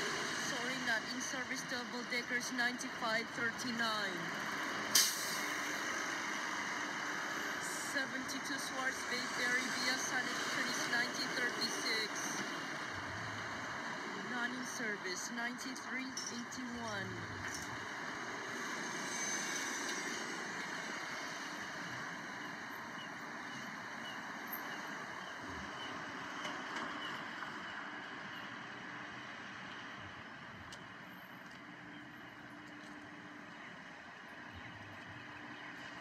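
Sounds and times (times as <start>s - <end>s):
bus passing: 0.0s - 36.0s
street traffic: 0.0s - 36.0s.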